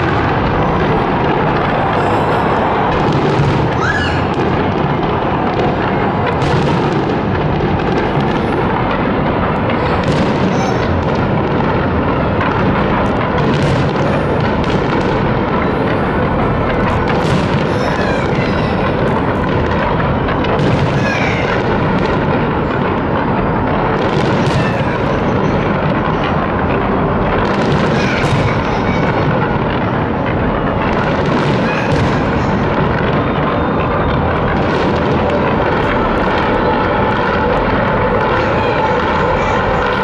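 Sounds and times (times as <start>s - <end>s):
fireworks rumble and crackle: 0.0s - 40.0s
sharp fireworks bangs: 0.0s - 40.0s.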